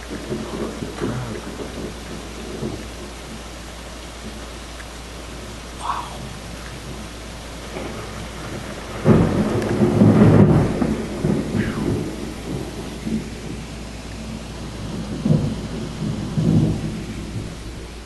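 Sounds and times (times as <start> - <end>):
thunder rumbling: 0.0 - 4.6, 5.2 - 18.0
steady rain: 0.0 - 18.0.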